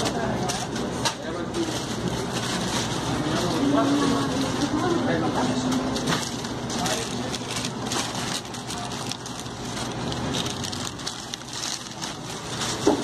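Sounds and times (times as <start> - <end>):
plastic gloves rustling: 0.0 - 13.0
wrapping paper crinkling: 0.0 - 13.0.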